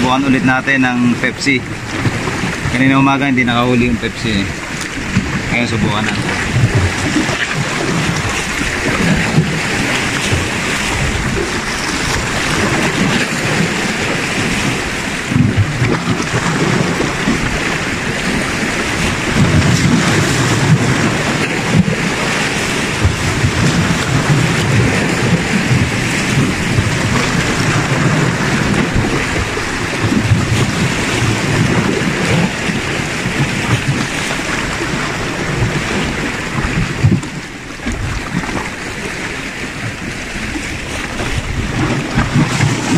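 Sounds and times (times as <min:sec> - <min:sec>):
waves washing against rocks: 0:00.0 - 0:42.9
wind buffeting microphone: 0:00.0 - 0:42.9.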